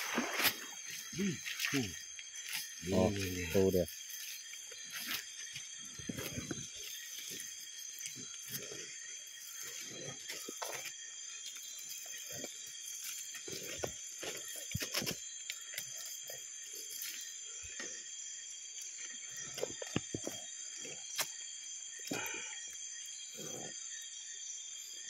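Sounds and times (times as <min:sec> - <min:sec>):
night insects chirring: 0:00.0 - 0:25.0.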